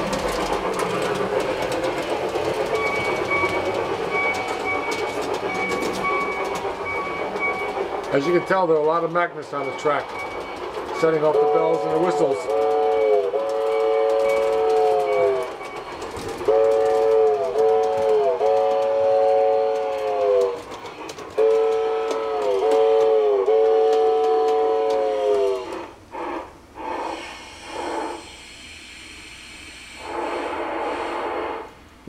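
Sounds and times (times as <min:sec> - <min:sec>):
steam chuffs: 0:00.0 - 0:31.8.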